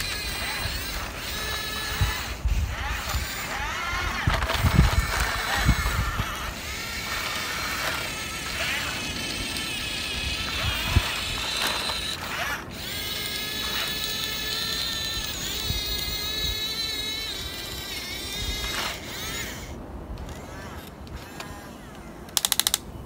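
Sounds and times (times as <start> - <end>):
toy gear motors whining: 0.0 - 22.8.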